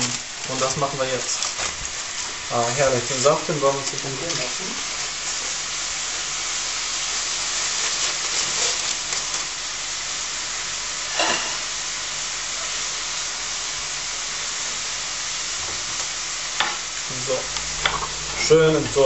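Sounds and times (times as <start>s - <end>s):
sauce sizzling in a pan: 0.0s - 19.0s.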